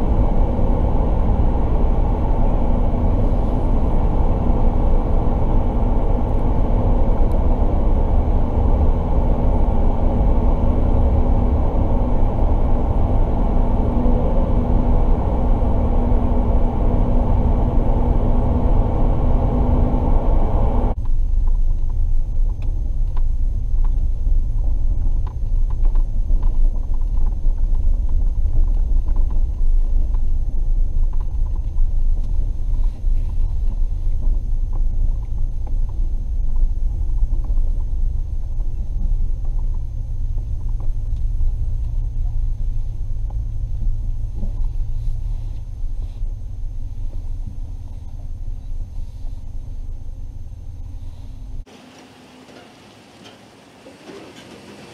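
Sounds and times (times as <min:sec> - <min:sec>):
truck engine and road noise: 0:00.0 - 0:21.6, 0:22.7 - 0:54.9
dull rumble on dirt track: 0:00.0 - 0:54.9
faint hum: 0:00.0 - 0:54.9.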